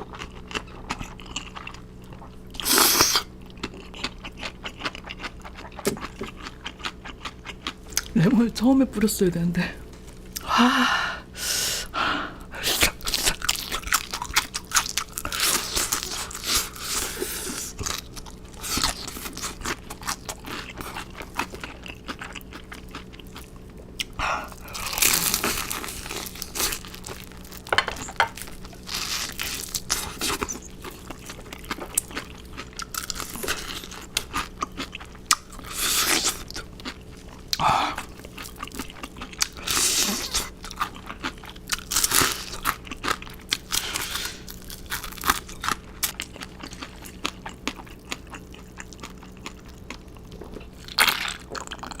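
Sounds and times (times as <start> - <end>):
crunchy chewing of fried chicken: 0.0 - 8.2, 12.5 - 52.0.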